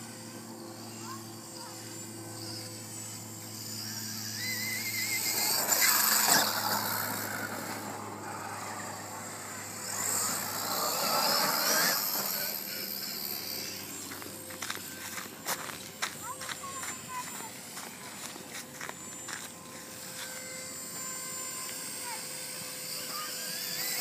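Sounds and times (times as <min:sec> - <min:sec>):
electric toy truck motor whining: 0:00.0 - 0:24.0.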